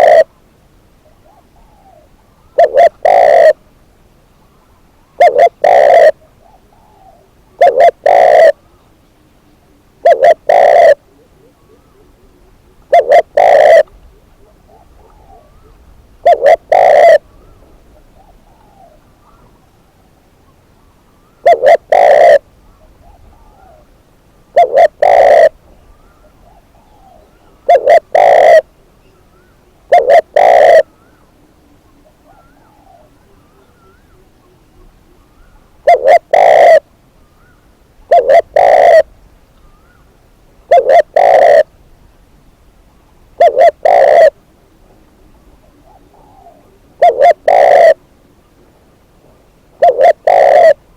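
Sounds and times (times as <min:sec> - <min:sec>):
dove cooing: 0:00.0 - 0:03.7, 0:04.4 - 0:20.3, 0:21.1 - 0:41.8, 0:43.3 - 0:50.9
faint bird calls: 0:00.0 - 0:42.0, 0:42.7 - 0:50.9.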